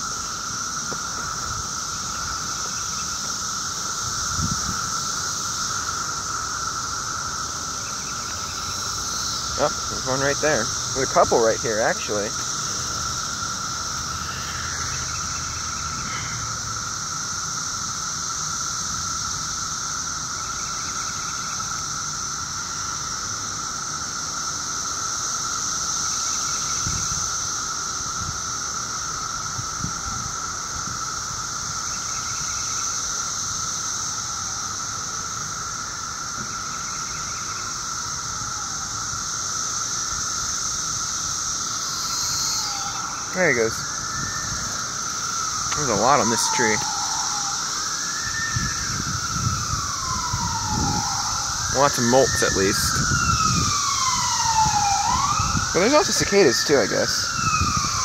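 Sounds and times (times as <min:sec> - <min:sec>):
cicadas chorus squealing: 0:00.0 - 0:58.0.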